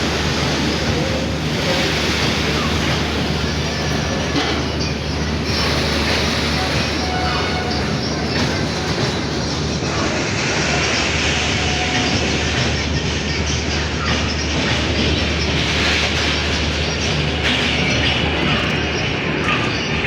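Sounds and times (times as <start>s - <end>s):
train wheels on rails: 0.0s - 20.0s.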